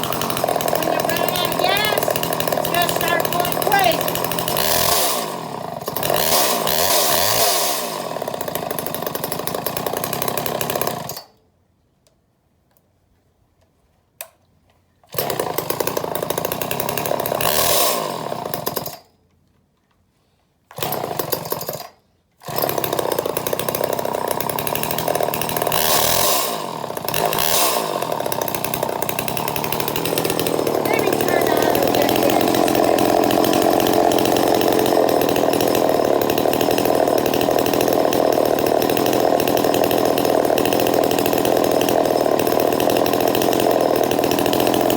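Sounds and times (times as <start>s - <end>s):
chainsaw engine revving: 0.0s - 11.3s, 15.1s - 19.1s, 20.7s - 44.9s.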